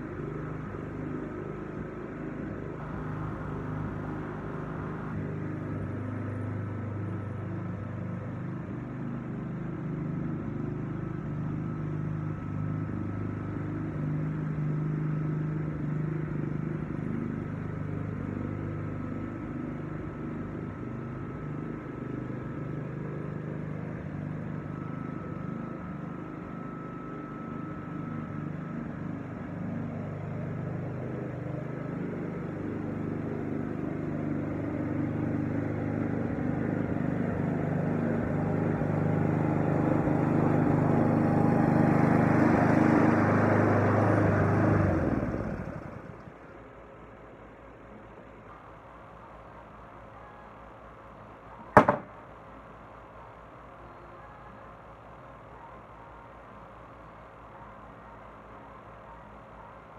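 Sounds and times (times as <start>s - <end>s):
lawn mower engine running: 0.0s - 48.1s.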